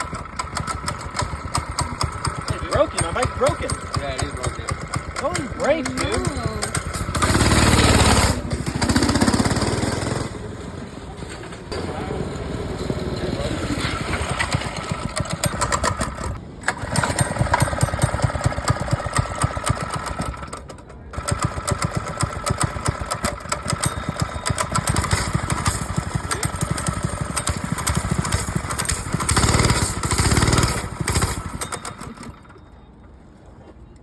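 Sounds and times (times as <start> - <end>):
minibike engine running: 0.0 - 34.0.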